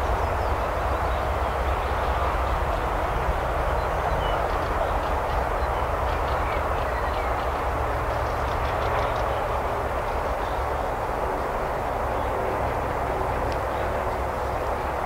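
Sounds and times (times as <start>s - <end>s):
train wagons rolling on rails: 0.0s - 15.0s.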